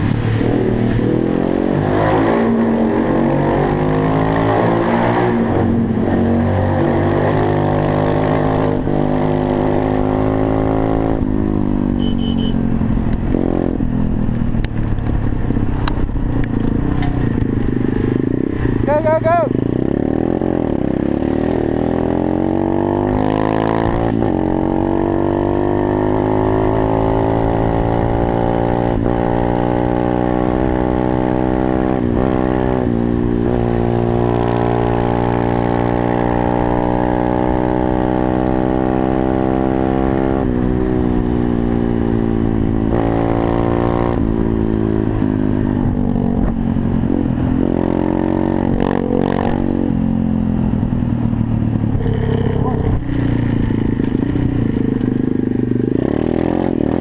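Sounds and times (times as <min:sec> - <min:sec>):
low wind rumble: 0:00.0 - 0:57.0
motorcycle engine revving: 0:00.0 - 0:57.0.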